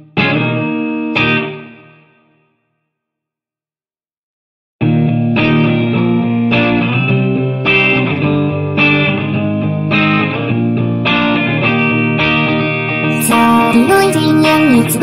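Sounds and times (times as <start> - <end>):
guitar playing ringing chords: 0.0 - 2.5, 4.8 - 15.0.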